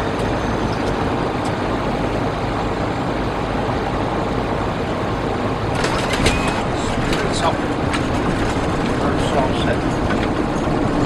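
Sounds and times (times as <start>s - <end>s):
aircraft cockpit drone: 0.0s - 11.0s.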